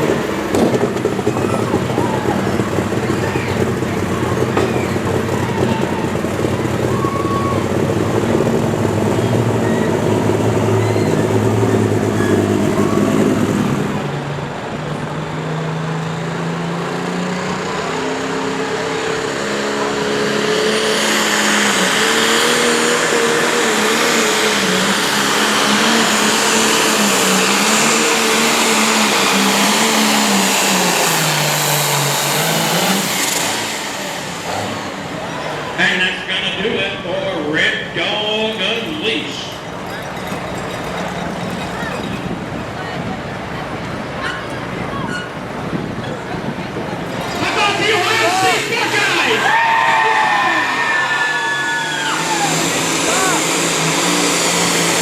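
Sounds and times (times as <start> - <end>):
tractor engine running hard: 0.0 - 49.5, 51.9 - 55.0.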